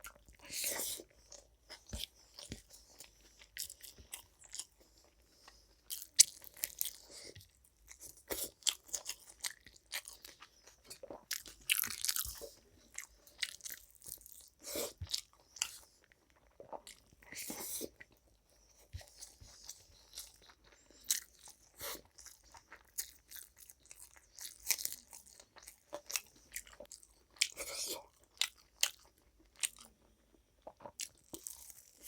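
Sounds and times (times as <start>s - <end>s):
chewing and crunching food: 0.0s - 32.0s.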